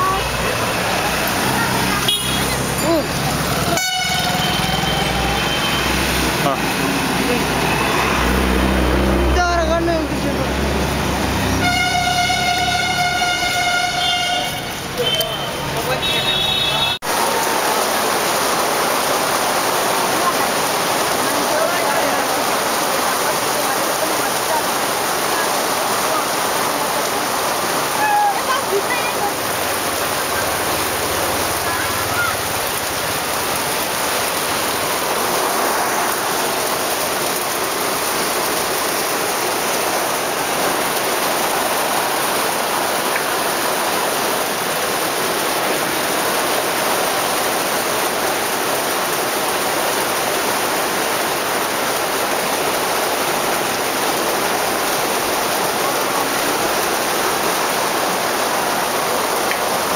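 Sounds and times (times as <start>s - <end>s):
heavy rain on a street: 0.0s - 59.9s.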